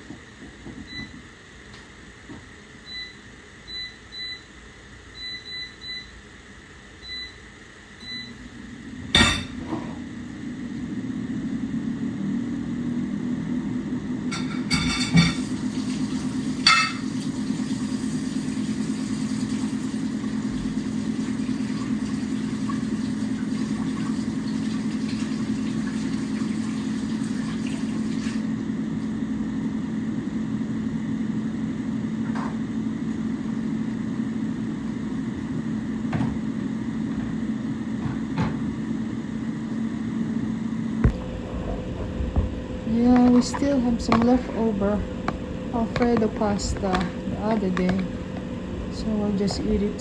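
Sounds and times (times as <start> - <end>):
air fryer fan hum: 0.0 - 50.0.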